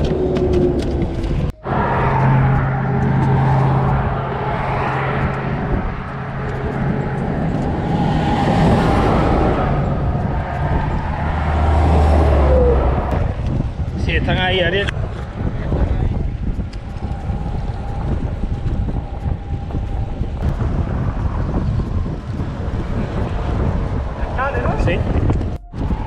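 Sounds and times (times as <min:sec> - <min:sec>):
deep truck drone: 0:00.0 - 0:26.0
highway traffic rushing: 0:00.0 - 0:26.0
low engine hum: 0:00.0 - 0:26.0.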